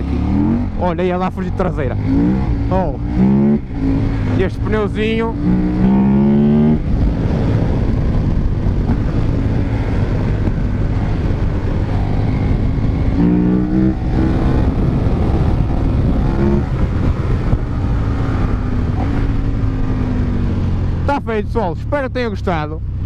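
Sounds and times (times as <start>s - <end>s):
wind rush on microphone: 0.0s - 21.7s
motorcycle engine at road speed: 0.0s - 23.0s.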